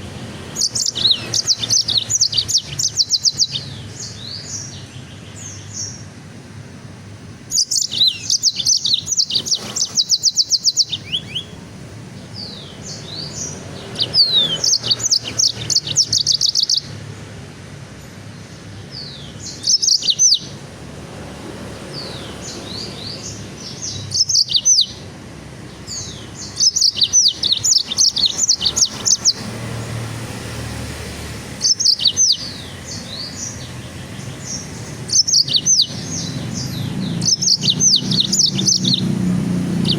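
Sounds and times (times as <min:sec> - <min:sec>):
songbird chirping: 0:00.0 - 0:06.4, 0:07.0 - 0:39.9.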